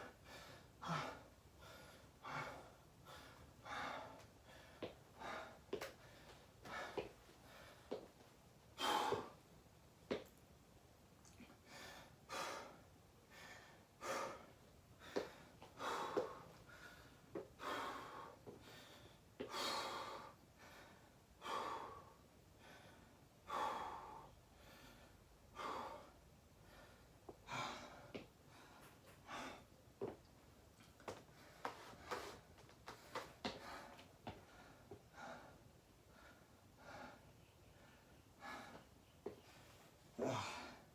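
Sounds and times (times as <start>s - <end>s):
person breathing hard: 0.1s - 8.1s, 11.5s - 29.8s, 31.1s - 40.9s.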